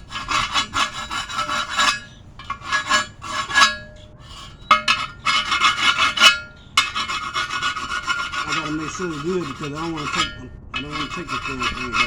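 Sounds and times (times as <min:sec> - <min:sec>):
abrasive tool scraping metal: 0:00.0 - 0:12.0.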